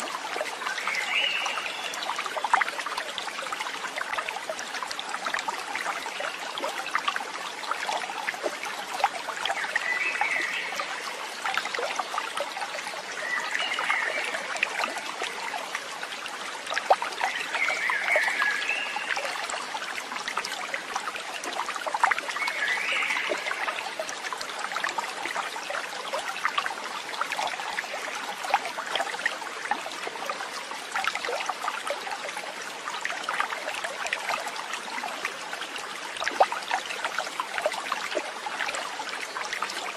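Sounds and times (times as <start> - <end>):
water trickling over stones: 0.0 - 39.9.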